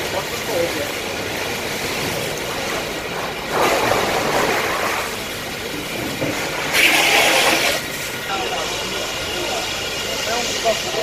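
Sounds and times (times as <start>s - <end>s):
water hissing on fire: 0.1s - 11.0s.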